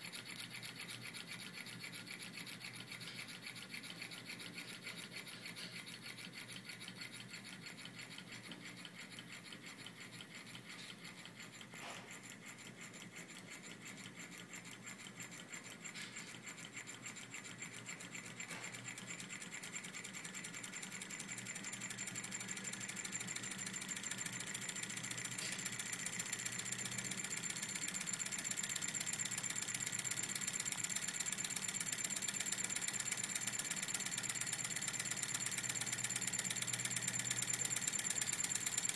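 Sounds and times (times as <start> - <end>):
small engine rasping rattle: 0.0 - 38.9.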